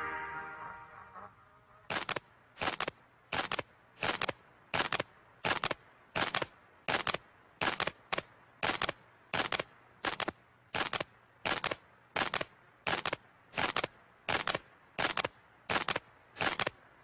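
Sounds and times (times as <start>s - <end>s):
sharp double clicks: 1.9s - 16.8s.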